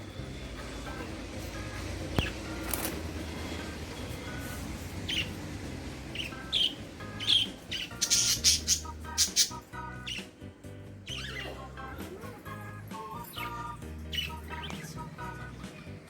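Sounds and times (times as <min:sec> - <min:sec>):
budgerigars chirping and chattering: 0:00.0 - 0:10.4, 0:11.0 - 0:12.1, 0:13.1 - 0:15.4.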